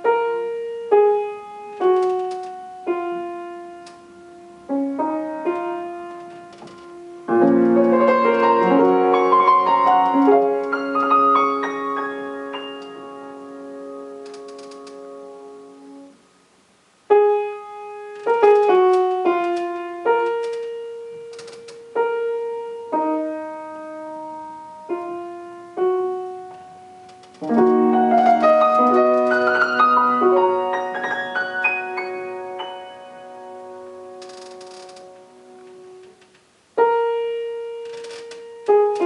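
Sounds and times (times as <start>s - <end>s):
solo piano classical music: 0.0s - 39.0s.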